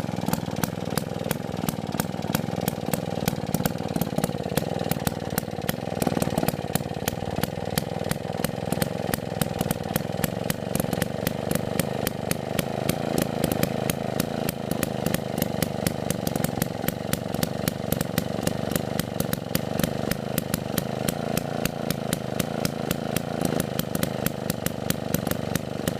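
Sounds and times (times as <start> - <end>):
two-stroke stationary engine running: 0.0 - 25.9.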